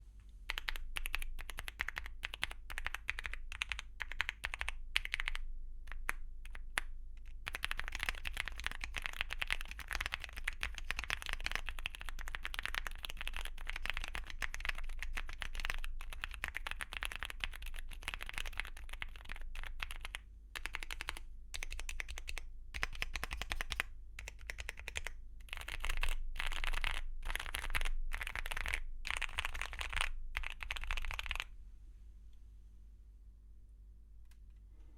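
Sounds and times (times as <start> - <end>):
mechanical keyboard typing: 0.5 - 31.5.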